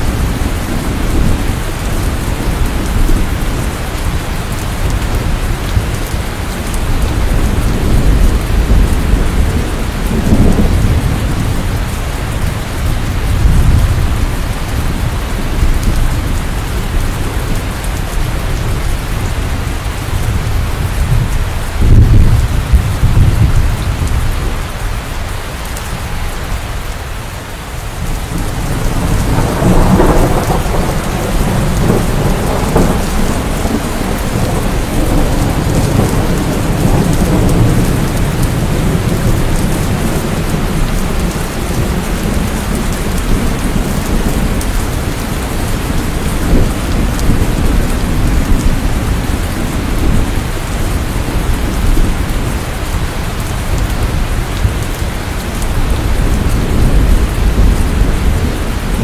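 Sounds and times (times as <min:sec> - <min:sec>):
rolling thunder: 0:00.0 - 0:24.8, 0:28.0 - 0:59.0
heavy rain: 0:00.0 - 0:59.0.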